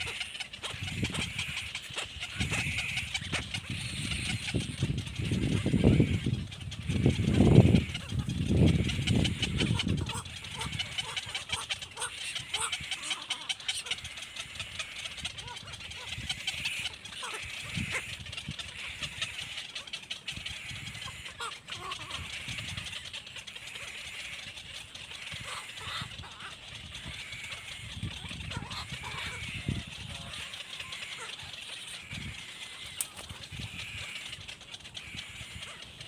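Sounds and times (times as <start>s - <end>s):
baby birds cheeping: 0.0s - 36.0s.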